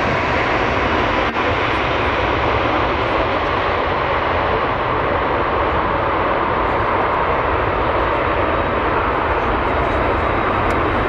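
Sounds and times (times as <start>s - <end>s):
jet airliner roar: 0.0s - 11.0s.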